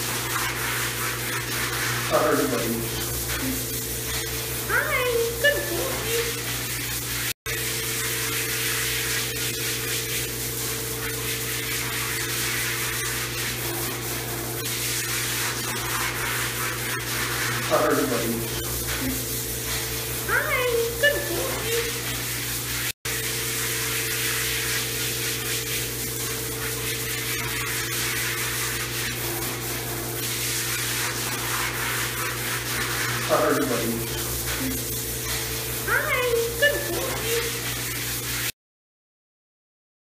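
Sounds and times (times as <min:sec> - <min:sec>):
water spraying from hose: 0:00.0 - 0:38.6.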